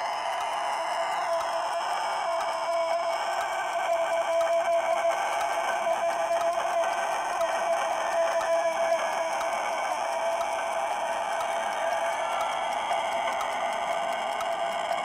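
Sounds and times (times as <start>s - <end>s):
rooster crowing: 0.0s - 15.0s.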